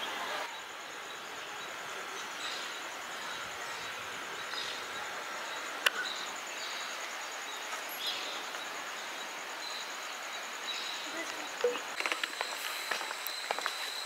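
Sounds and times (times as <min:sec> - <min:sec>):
pulsing insect trill: 0:00.0 - 0:14.0
steady hiss: 0:00.0 - 0:14.0.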